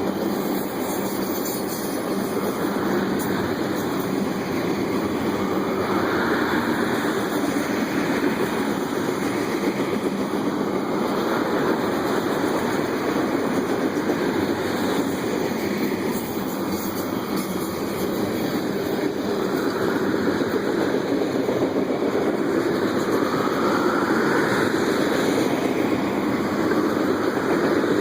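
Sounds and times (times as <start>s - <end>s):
train wheels on rails: 0.0s - 28.0s.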